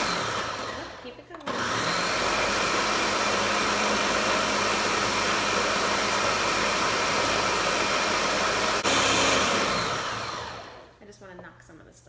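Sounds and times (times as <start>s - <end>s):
blender motor running: 0.0s - 10.9s.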